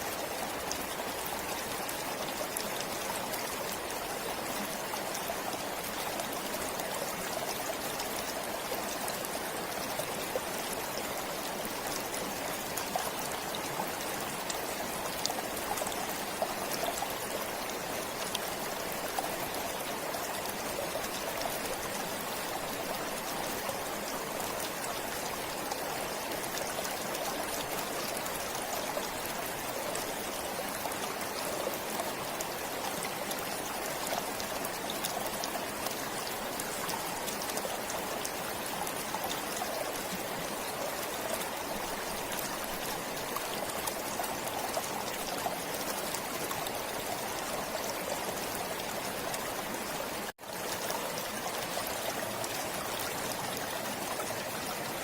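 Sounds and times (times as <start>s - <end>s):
forest stream flowing: 0.0s - 55.0s
water trickling and splashing: 0.0s - 55.0s.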